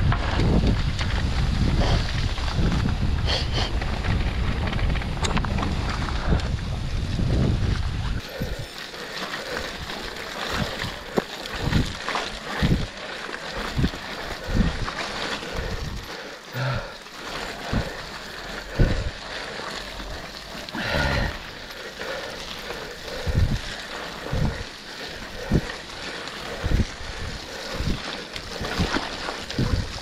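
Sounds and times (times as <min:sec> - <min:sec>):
bike tyres splashing in mud: 0:00.0 - 0:30.0.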